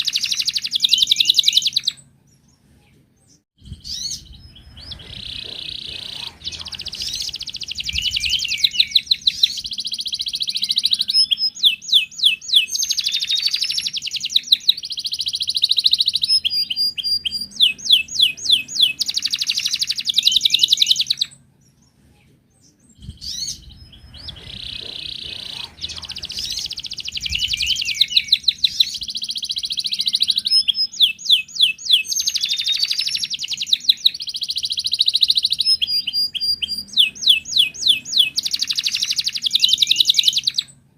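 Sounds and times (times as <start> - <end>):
canary singing: 0.0 - 2.6, 3.2 - 22.0, 22.6 - 40.8.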